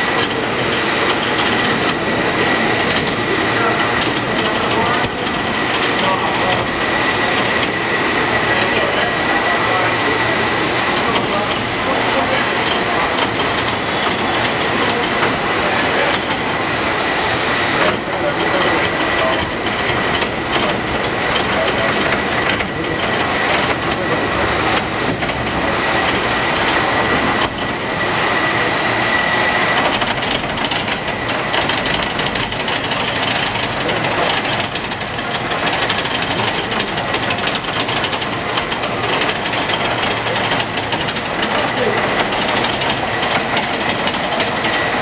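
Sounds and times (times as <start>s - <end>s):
cable car rumbling and clattering: 0.0s - 45.0s
steady high whine: 0.0s - 45.0s.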